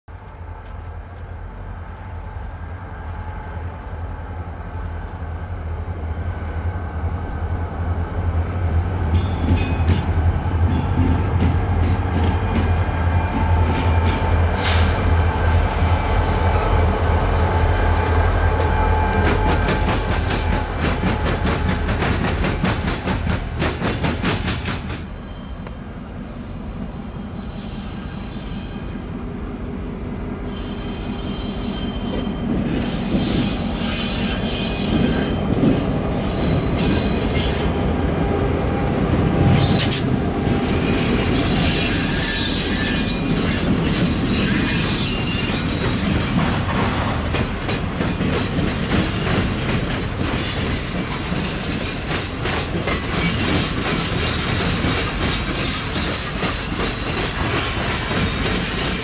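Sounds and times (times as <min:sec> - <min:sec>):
diesel locomotive engines droning: 0:00.1 - 0:59.0
high train wheel squeal: 0:00.2 - 0:29.1, 0:30.4 - 0:38.5, 0:39.3 - 0:59.0.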